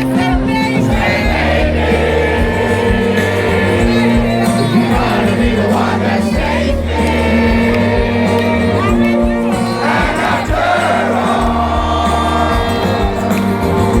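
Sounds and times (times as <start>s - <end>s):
crowd noise: 0.0s - 14.0s
live rock band playing: 0.0s - 14.0s.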